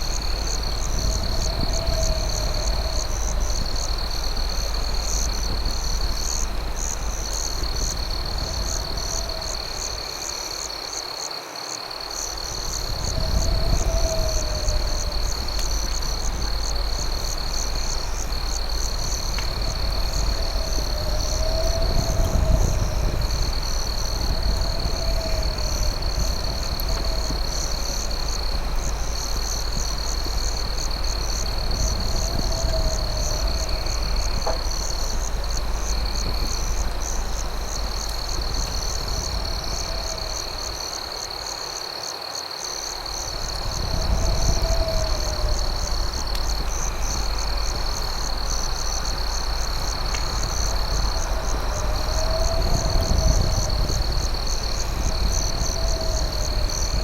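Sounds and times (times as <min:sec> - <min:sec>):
low rumble: 0:00.0 - 0:10.5, 0:12.3 - 0:41.0, 0:43.1 - 0:57.0
crickets trilling: 0:00.0 - 0:57.0.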